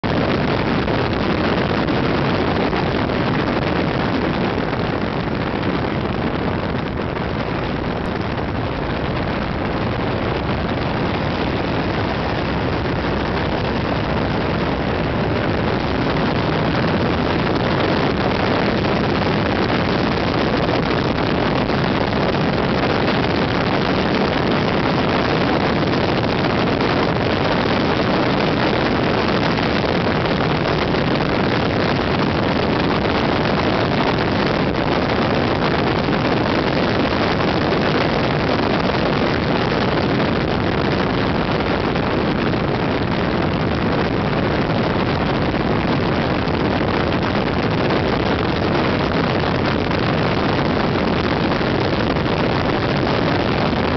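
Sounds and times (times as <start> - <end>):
wind rush on microphone: 0.0 - 53.9.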